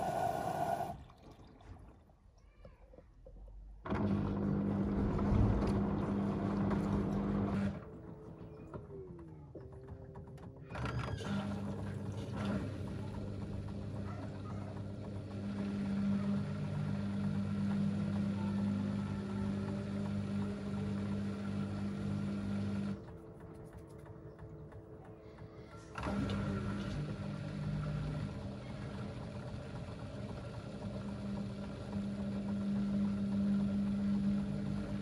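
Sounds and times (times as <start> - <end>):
washing machine spinning: 0.0 - 2.2, 3.7 - 35.0.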